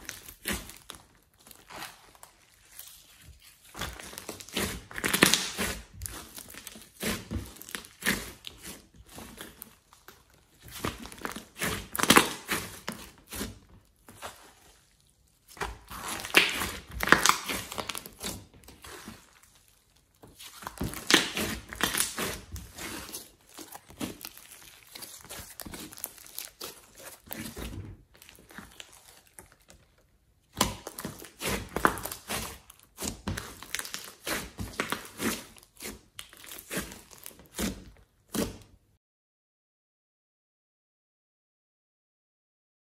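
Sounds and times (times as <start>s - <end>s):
slime squishing and crackling: 0.0s - 38.8s.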